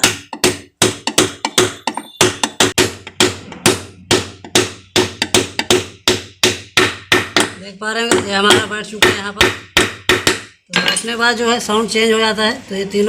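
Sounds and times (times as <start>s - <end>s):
hammer tapping metal: 0.0s - 11.2s.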